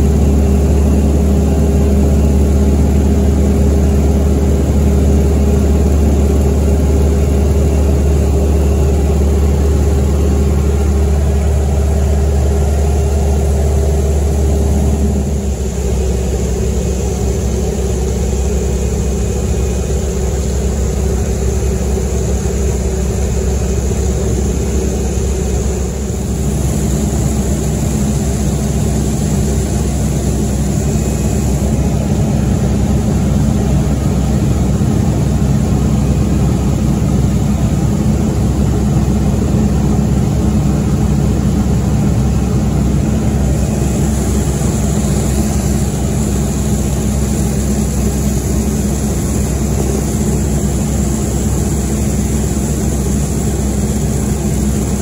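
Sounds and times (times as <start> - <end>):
radial engine and propeller droning: 0.0 - 55.0.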